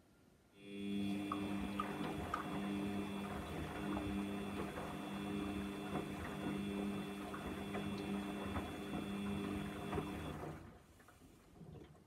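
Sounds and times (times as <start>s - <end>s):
washing machine motor hum: 0.6s - 12.0s.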